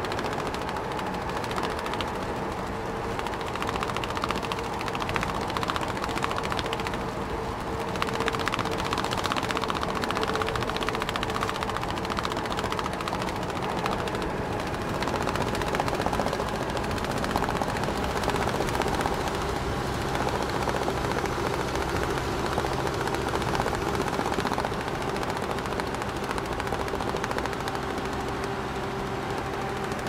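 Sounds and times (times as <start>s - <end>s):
truck engine running: 0.0s - 30.0s.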